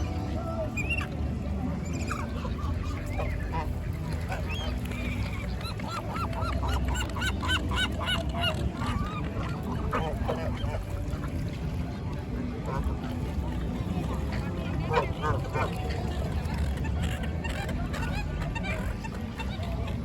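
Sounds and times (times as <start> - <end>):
geese honking: 0.0 - 11.7, 12.6 - 20.0.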